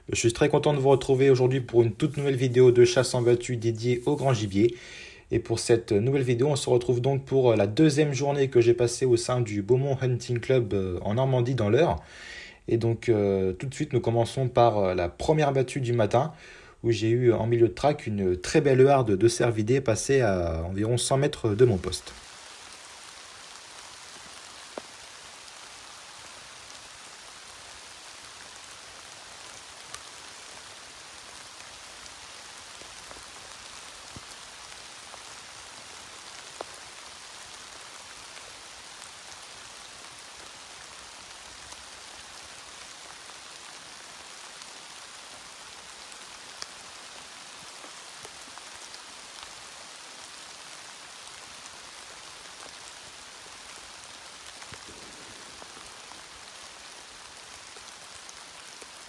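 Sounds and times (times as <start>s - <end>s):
light rain on leaves: 0.0s - 59.0s.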